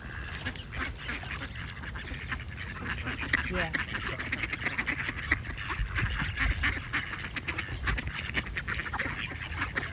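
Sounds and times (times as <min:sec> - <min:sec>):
ducks quacking: 0:00.0 - 0:09.9.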